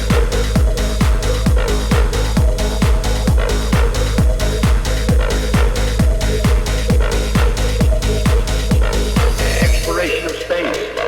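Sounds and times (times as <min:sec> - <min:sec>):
kick drum: 0:00.0 - 0:10.3
trance music over sound system: 0:00.0 - 0:11.0.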